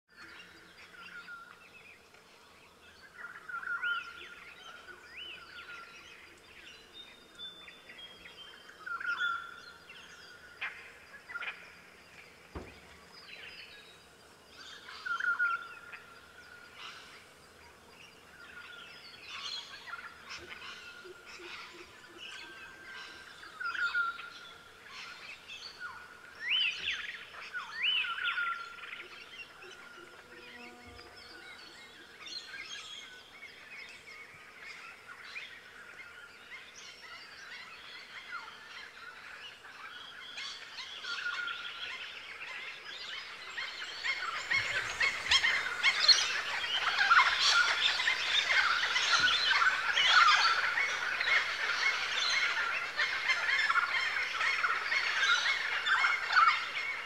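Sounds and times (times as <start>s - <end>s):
birds chirping: 0.1s - 57.0s.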